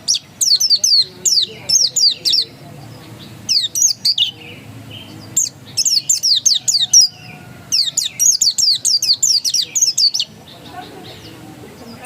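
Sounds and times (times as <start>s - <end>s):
bird singing rapid high notes: 0.0s - 12.0s.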